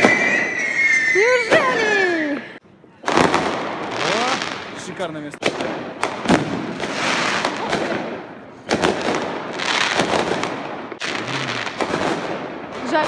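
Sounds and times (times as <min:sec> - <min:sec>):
fireworks loud bangs: 0:00.0 - 0:02.2, 0:03.0 - 0:13.0
fireworks crackling: 0:00.0 - 0:13.0.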